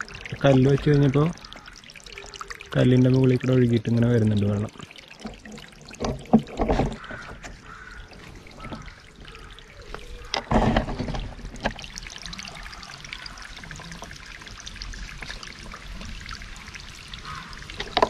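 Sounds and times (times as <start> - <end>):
water trickling into pond: 0.0 - 18.0.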